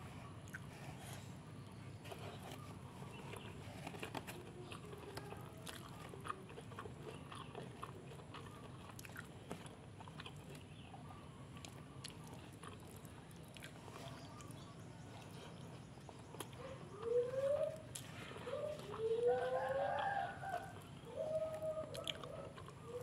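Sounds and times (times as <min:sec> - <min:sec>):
faint low hum: 0:00.0 - 0:23.0
chewing with mouth clicks: 0:00.3 - 0:23.0
small crunches: 0:00.4 - 0:23.0.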